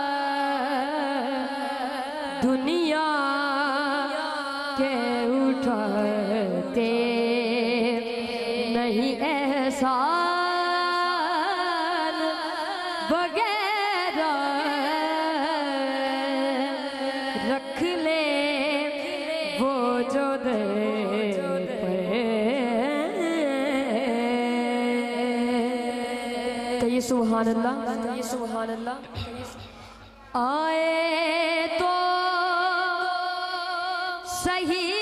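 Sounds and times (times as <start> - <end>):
boy singing devotional song: 0.0 - 35.0.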